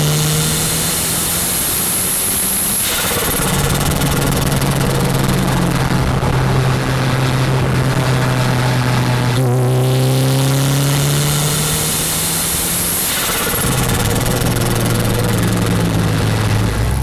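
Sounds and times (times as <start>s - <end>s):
turbo engine running: 0.0s - 17.0s.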